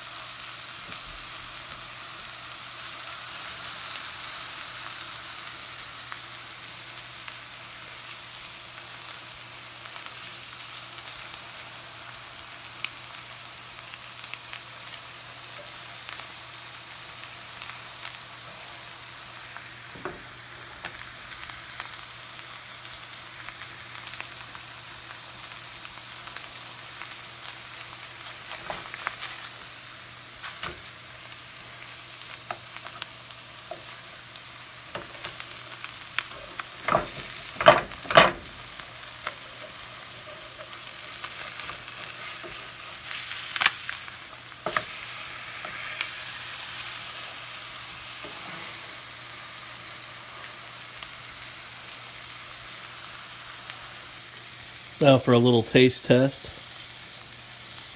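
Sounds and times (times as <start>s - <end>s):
fish sizzling in a skillet: 0.0s - 57.9s.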